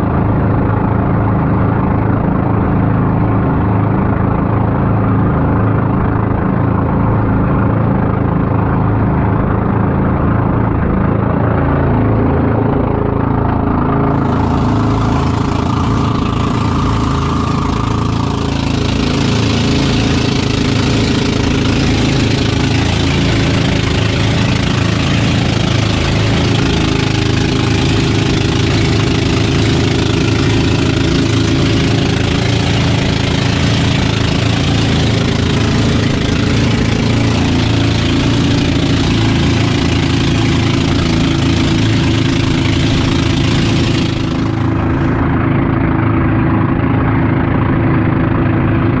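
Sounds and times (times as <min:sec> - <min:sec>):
boat engine running: 0:00.0 - 0:49.0.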